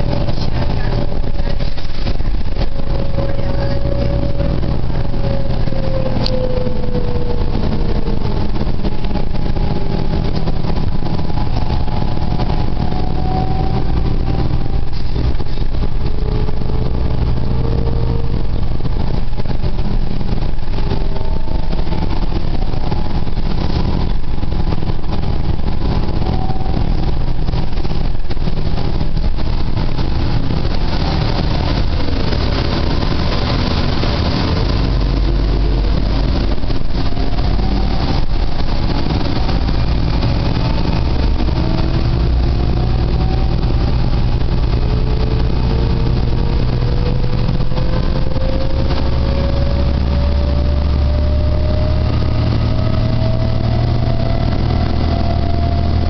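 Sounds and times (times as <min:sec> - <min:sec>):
bus engine running: 0:00.0 - 0:56.0
drivetrain whine: 0:00.0 - 0:56.0.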